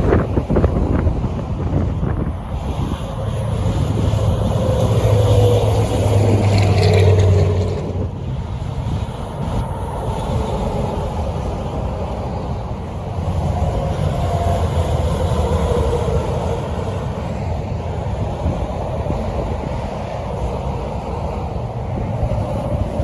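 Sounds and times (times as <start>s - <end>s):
truck engines passing: 0.0s - 23.0s
tyre and road noise: 0.0s - 23.0s.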